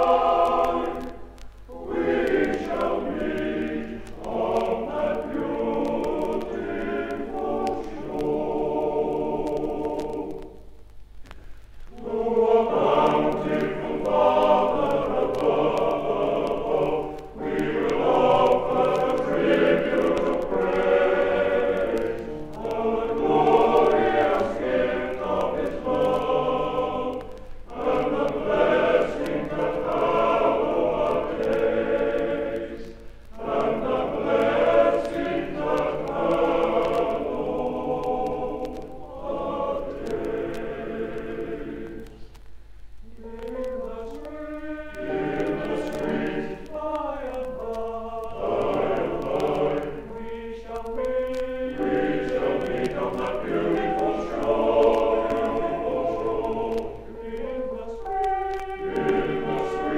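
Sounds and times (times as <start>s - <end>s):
male voice choir singing: 0.0s - 10.6s, 11.9s - 42.2s, 43.1s - 59.9s.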